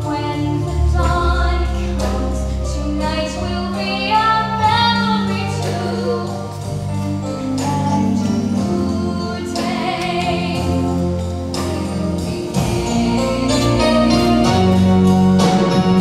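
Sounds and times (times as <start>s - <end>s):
instrumental accompaniment: 0.0s - 16.0s.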